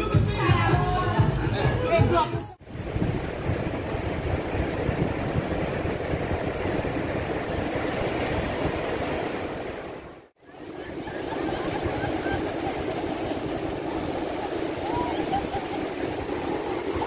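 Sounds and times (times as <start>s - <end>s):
ocean waves on sandy beach: 2.6s - 17.0s.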